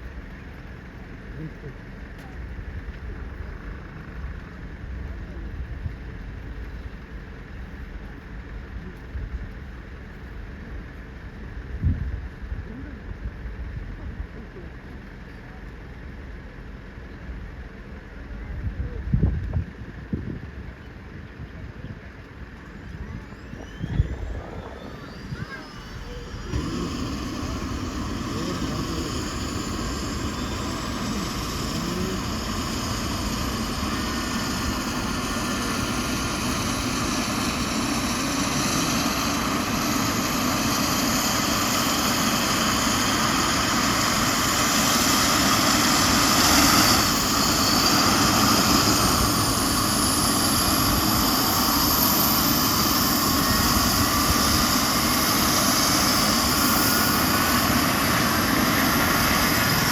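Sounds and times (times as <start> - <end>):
helicopter turbine engines starting up: 0.0 - 59.9.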